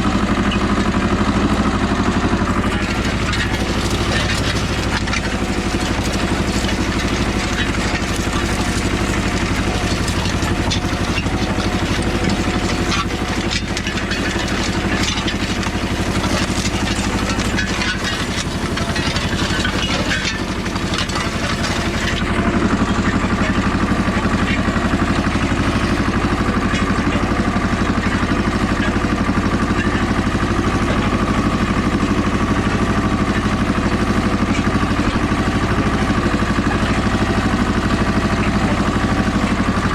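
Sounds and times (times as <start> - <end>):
harrow rattling and clatter: 0.0 - 39.9
tractor diesel engine running: 0.0 - 39.9.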